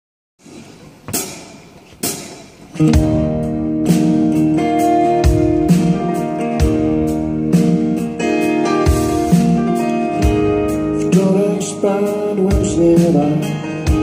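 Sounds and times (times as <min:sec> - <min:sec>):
acoustic guitars strumming chords: 0:00.4 - 0:14.0.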